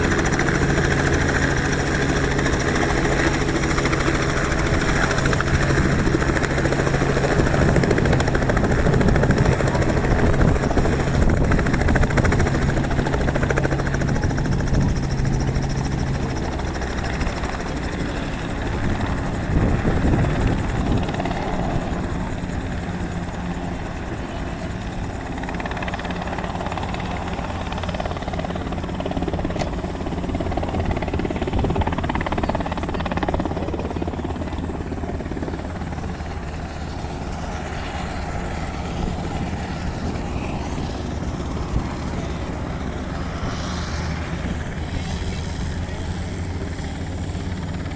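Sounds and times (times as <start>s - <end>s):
helicopter rotor and engine: 0.0s - 47.9s.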